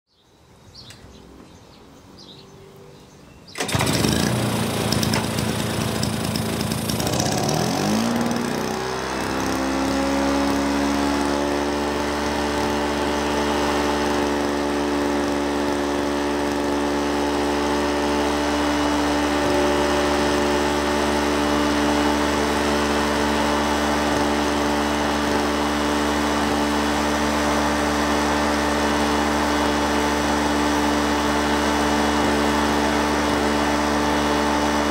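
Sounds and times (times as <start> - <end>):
lawnmower engine running: 3.5 - 34.9.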